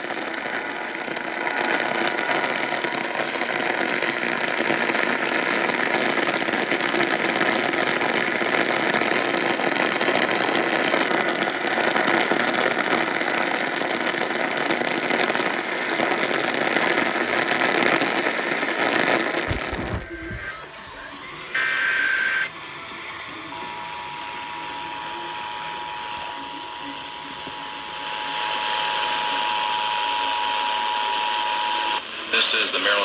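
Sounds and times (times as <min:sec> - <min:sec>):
crackling radio static: 0:00.0 - 0:12.4, 0:13.0 - 0:33.0.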